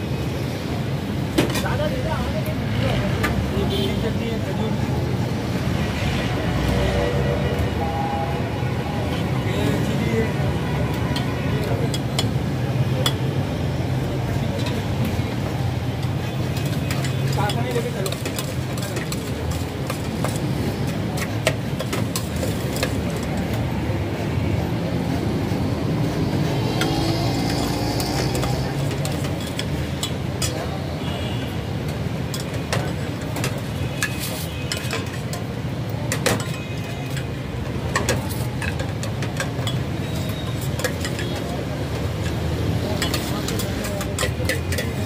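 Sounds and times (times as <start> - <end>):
street traffic hum: 0.0 - 45.0.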